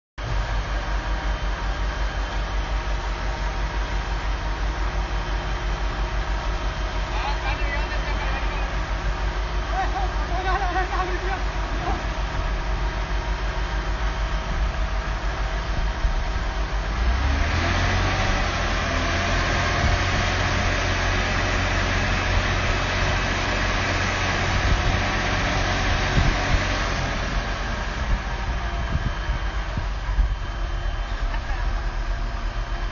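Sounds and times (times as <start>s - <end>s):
heavy diesel engine running: 0.2s - 32.9s.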